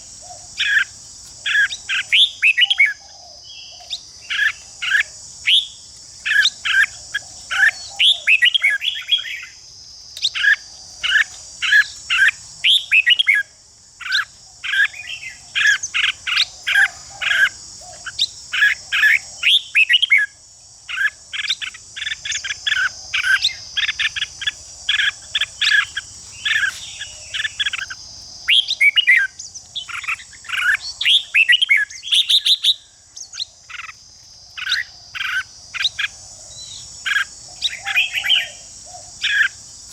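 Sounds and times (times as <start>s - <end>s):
birds singing whistled phrases: 0.0s - 9.6s, 10.2s - 20.3s, 20.9s - 34.0s, 34.6s - 39.6s
high-pitched insect buzz: 0.0s - 39.9s.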